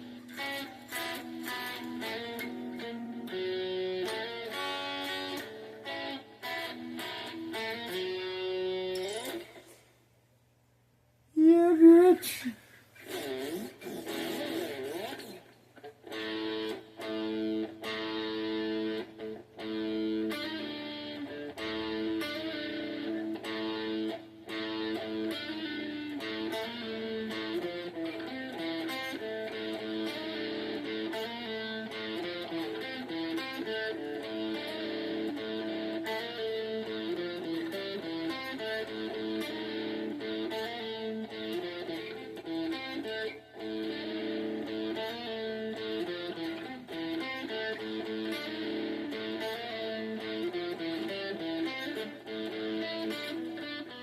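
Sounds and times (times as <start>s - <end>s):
guitar strummed and picked: 0.0s - 9.9s, 13.0s - 54.0s.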